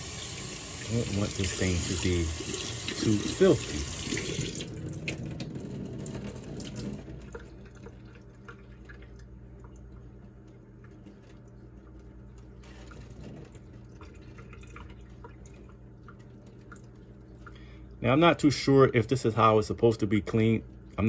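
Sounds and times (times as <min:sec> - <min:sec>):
water dripping into a sink: 0:00.0 - 0:19.0.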